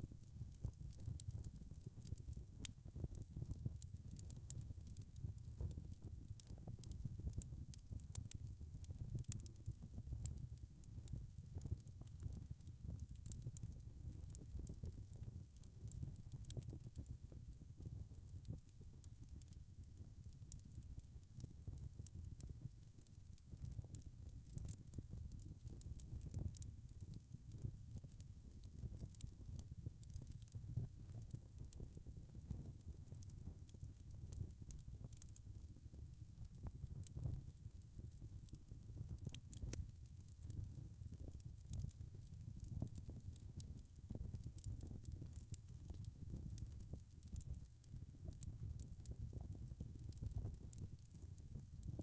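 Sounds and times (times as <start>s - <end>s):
low rumble of flames: 0.0s - 52.0s
wood fire crackling: 0.1s - 52.0s.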